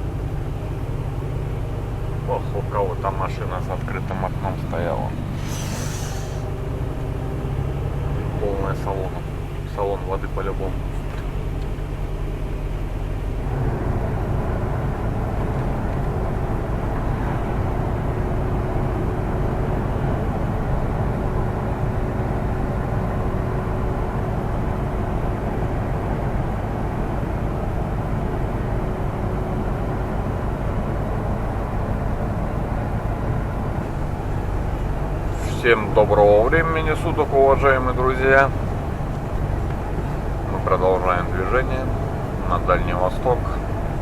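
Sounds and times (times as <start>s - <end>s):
road noise: 0.0s - 44.0s
truck diesel engine from cab: 0.0s - 44.0s.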